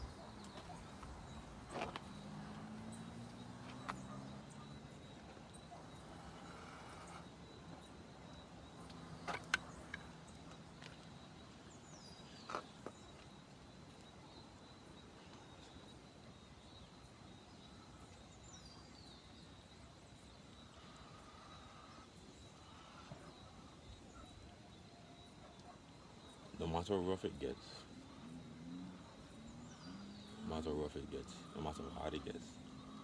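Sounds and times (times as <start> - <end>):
faint outdoor ambience: 0.0 - 33.0.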